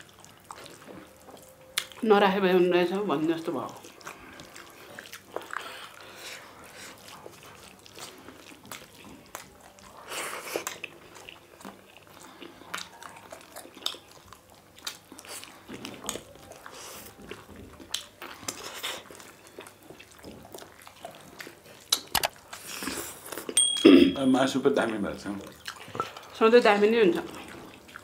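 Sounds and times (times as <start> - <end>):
chewing and wet smacking: 0.0 - 23.8, 24.4 - 28.0.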